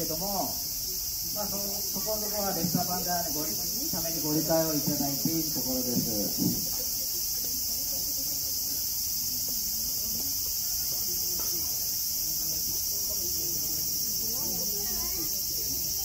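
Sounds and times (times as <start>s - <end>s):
faint distant voices: 0.0s - 16.0s
insects singing: 0.0s - 16.0s.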